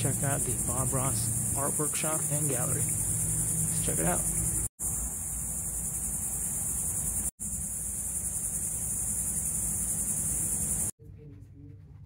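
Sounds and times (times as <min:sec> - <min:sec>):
high-pitched insect chorus: 0:00.0 - 0:10.9.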